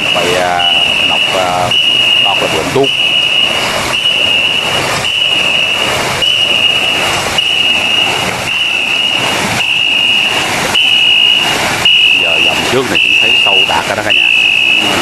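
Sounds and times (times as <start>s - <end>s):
paddles splashing water: 0.0s - 15.0s
whistle blasts: 0.0s - 15.0s.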